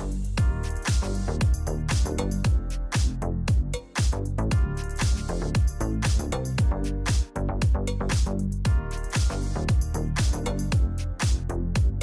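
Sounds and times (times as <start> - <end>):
pop music with electronic beat: 0.4 - 12.0.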